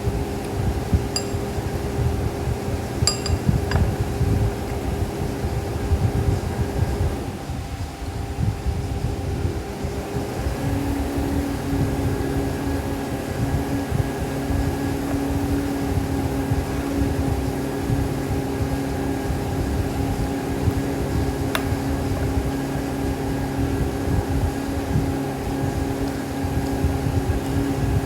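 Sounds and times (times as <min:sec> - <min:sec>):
machine hum with low rumble: 0:00.0 - 0:28.0.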